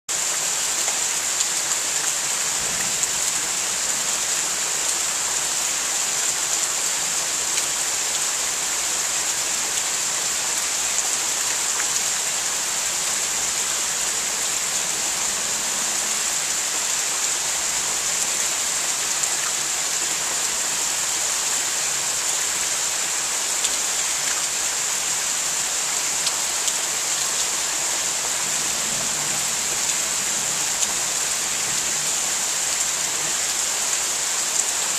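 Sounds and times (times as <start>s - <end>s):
rain falling hiss: 0.1s - 34.9s.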